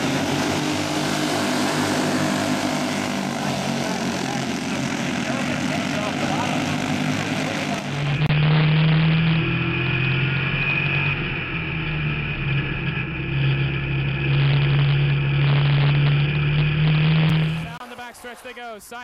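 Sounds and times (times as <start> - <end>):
go-kart engines buzzing: 0.0 - 19.0
race car engine high pitch: 0.0 - 19.0.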